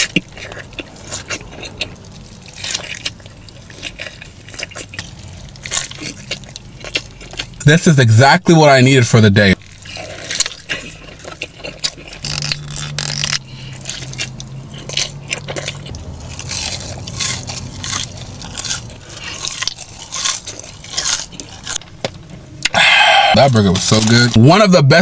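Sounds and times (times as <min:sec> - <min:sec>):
person chewing a burger: 0:00.0 - 0:07.6, 0:09.5 - 0:24.4.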